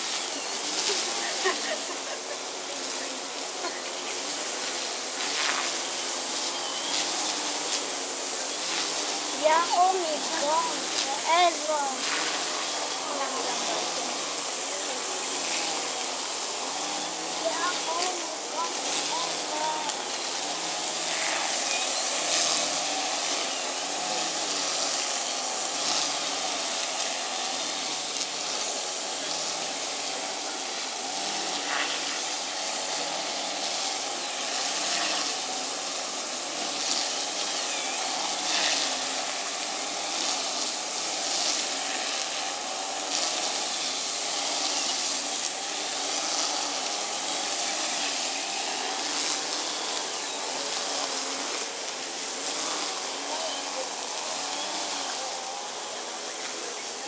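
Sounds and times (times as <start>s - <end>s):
steady outdoor background hiss: 0.0s - 57.0s.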